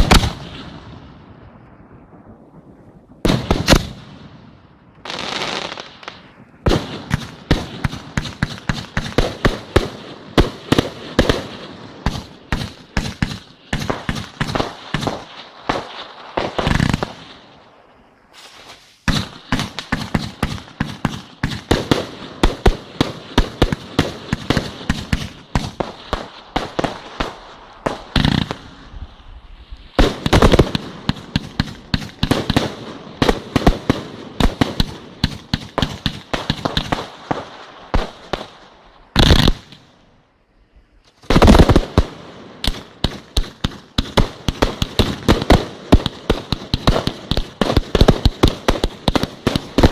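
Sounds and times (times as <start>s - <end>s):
fireworks barrage of bangs: 0.0s - 17.7s, 18.3s - 29.3s, 29.9s - 39.8s, 41.2s - 49.9s.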